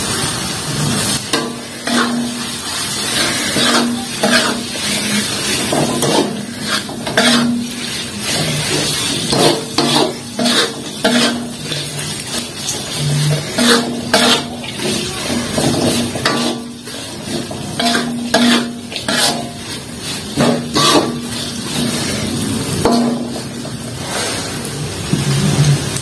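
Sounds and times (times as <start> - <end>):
metal spatula scraping a wok: 0.8 - 24.6.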